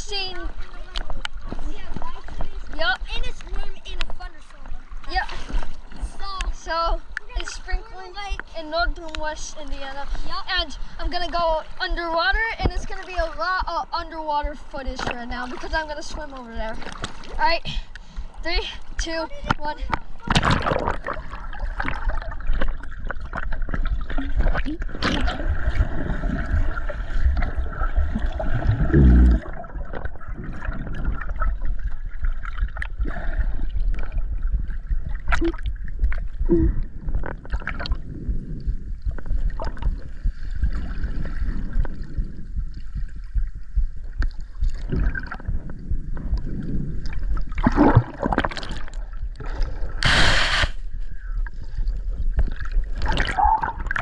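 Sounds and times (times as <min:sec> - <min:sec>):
rush of water: 0:00.0 - 0:42.4, 0:44.2 - 0:50.9, 0:52.4 - 0:54.0
underwater low rumble: 0:00.0 - 0:54.0
water gurgling: 0:00.0 - 0:54.0.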